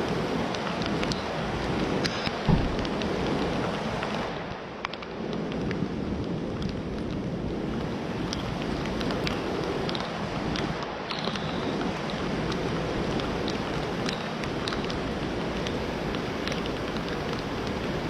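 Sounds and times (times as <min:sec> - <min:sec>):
heavy rain falling: 0:00.0 - 0:18.0
low rumble of wind: 0:00.0 - 0:18.0
raindrops ticking close by: 0:00.0 - 0:18.0.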